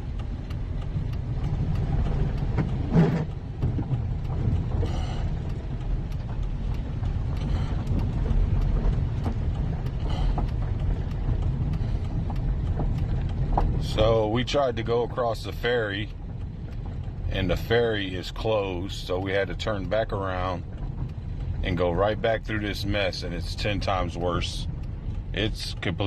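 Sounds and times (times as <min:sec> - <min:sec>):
van driving rumble: 0:00.0 - 0:26.0.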